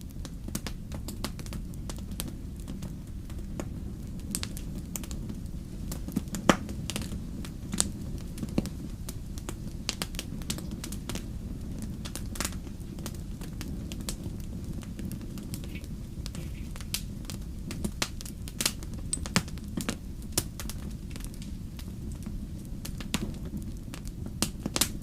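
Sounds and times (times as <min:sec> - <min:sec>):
fire popping and snapping: 0:00.0 - 0:25.0
low fire rumble: 0:00.0 - 0:25.0
wood fire crackling: 0:00.0 - 0:25.0.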